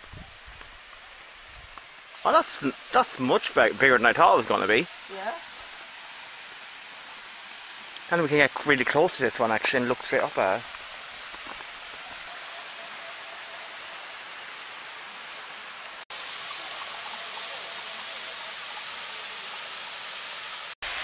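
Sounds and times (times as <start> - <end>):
waterfall pouring into a pool: 0.8 - 21.0.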